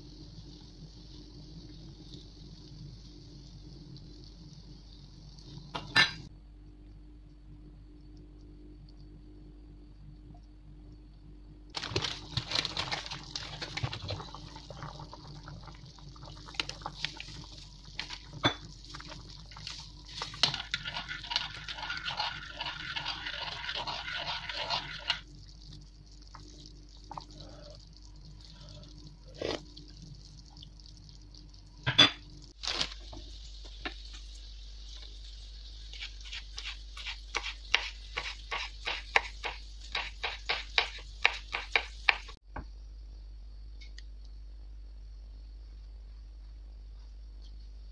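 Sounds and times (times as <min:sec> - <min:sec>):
broth boiling and bubbling: 0:00.0 - 0:43.6.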